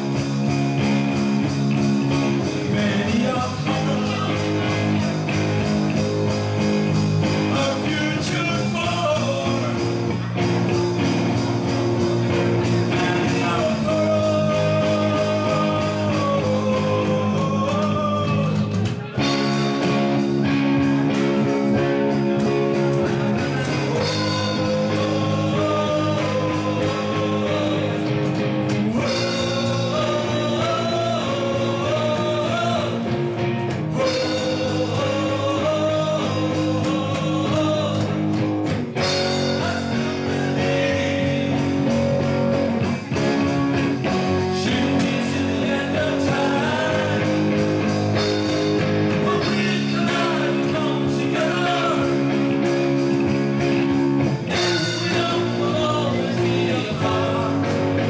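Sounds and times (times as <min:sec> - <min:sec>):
bass guitar: 0:00.0 - 0:58.0
electric guitar: 0:00.0 - 0:58.0
person singing: 0:02.1 - 0:05.6, 0:07.2 - 0:10.6, 0:12.3 - 0:53.6, 0:54.4 - 0:58.0.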